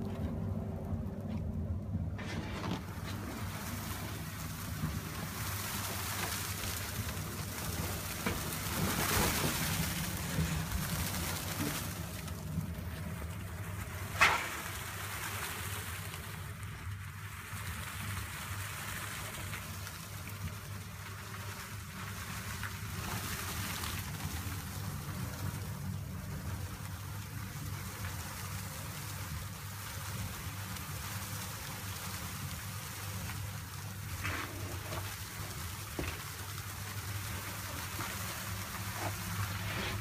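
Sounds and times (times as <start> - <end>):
insulation rushing through hose: 0.0 - 40.0
low machine hum: 0.0 - 40.0.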